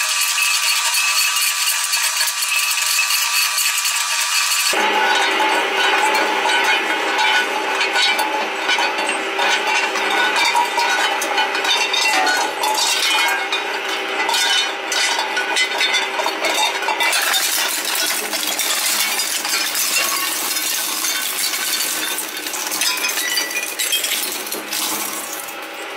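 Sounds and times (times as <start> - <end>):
shredder motor hum: 0.0 - 22.8.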